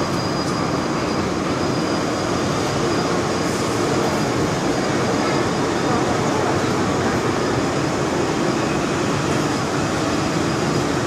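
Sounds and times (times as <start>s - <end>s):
subway car running noise: 0.0s - 11.0s.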